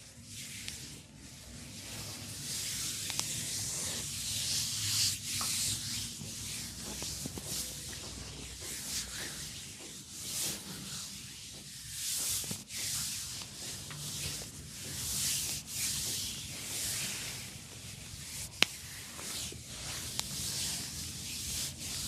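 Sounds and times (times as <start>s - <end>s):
hands rubbing hair and scalp: 0.2s - 22.0s.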